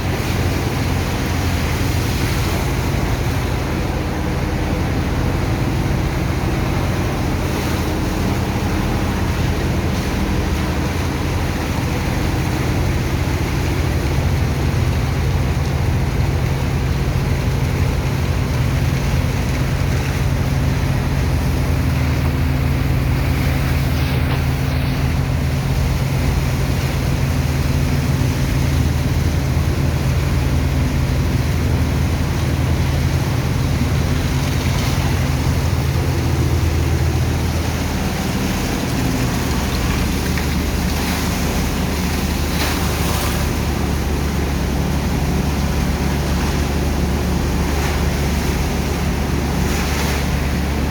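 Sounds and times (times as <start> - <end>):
pump engine humming: 0.0 - 50.9
rushing water: 0.0 - 50.9.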